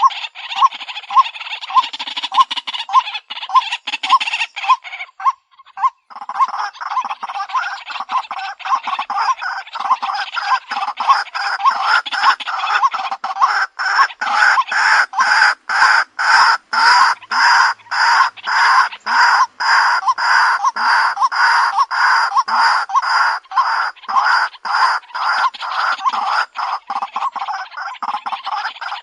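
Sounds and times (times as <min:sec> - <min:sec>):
waterhen harsh calls: 0:00.0 - 0:29.0.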